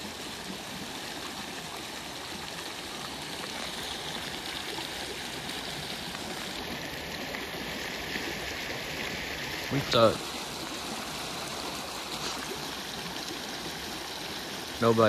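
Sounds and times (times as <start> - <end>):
river water rushing over gravel: 0.0 - 15.0.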